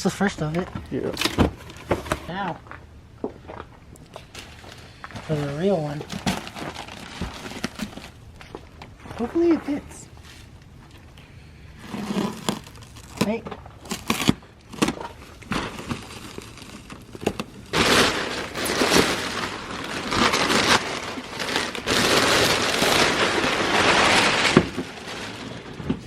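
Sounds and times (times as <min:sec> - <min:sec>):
material crinkling and rustling: 0:03.5 - 0:11.2, 0:11.8 - 0:26.0.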